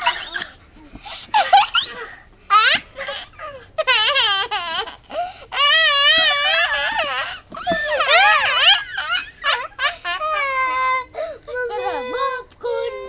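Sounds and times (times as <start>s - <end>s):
boys shrieking and laughing: 0.0s - 0.6s, 1.3s - 11.2s
boy wailing pretend crying: 1.4s - 13.0s.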